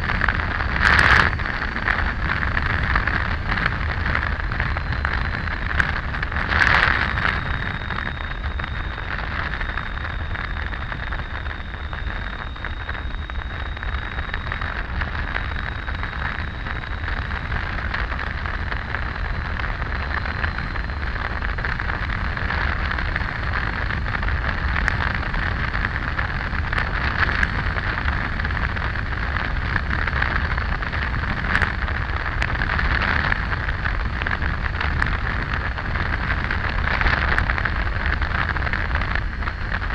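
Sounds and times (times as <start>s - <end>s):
faint high whine: 0.0s - 39.9s
wind and road noise: 0.0s - 39.9s.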